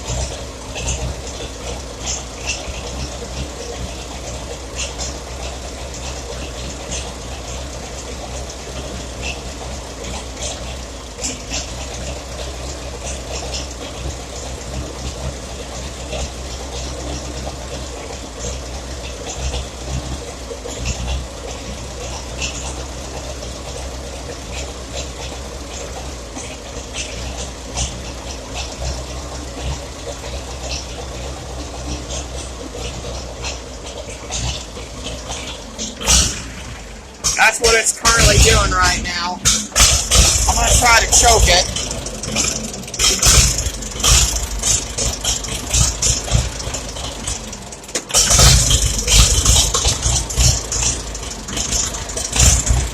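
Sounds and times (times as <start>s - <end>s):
engine pops and ticks: 0.0s - 52.9s
tractor engine running unevenly: 0.0s - 52.9s.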